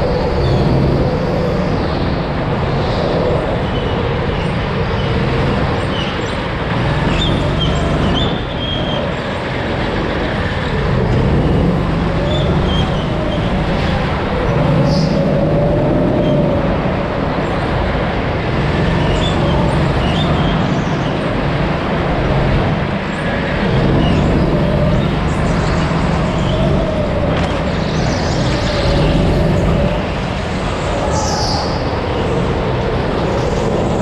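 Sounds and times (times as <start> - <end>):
go-kart engine droning: 0.0 - 34.0.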